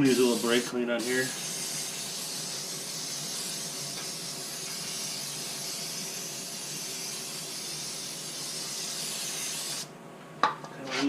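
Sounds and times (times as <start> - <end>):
aerosol can spraying hiss: 0.0 - 9.9.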